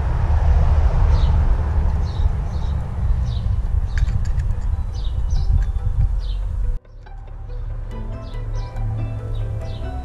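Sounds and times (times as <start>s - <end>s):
steady low rumble: 0.0s - 10.0s
bird chirping: 1.0s - 10.0s.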